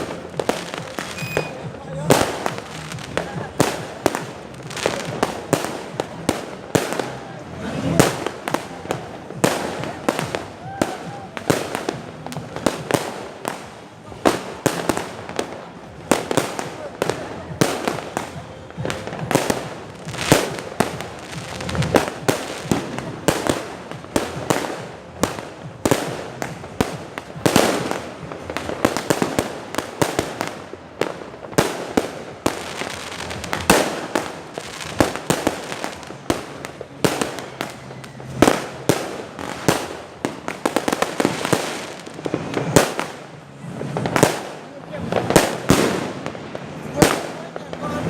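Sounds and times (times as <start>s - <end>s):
fireworks bangs and pops: 0.0s - 48.0s.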